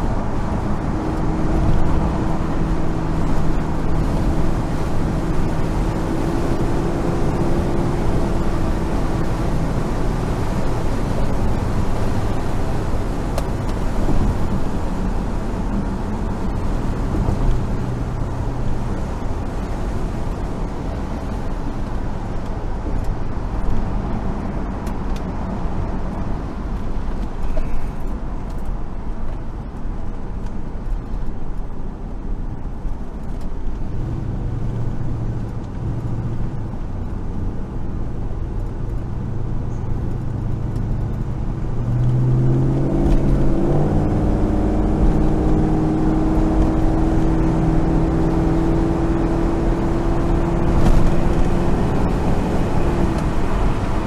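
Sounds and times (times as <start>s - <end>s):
car engine droning: 0.0s - 54.0s
road and wind noise: 0.0s - 54.0s.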